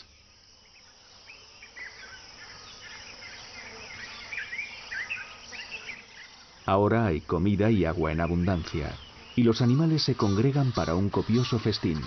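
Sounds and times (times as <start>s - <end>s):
birds chirping: 0.0s - 12.0s
insect hiss: 0.0s - 12.0s.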